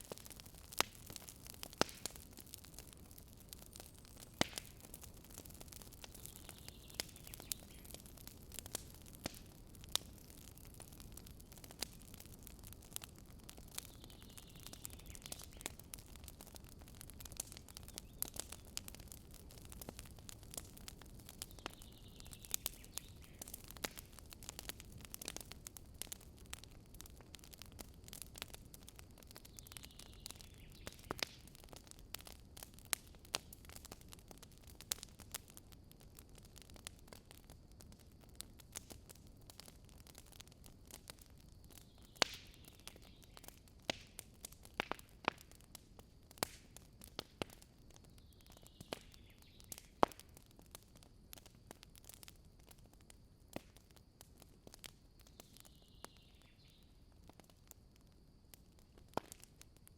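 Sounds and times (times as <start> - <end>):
campfire crackling: 0.0 - 59.9
faint hiss of flames: 0.0 - 59.9.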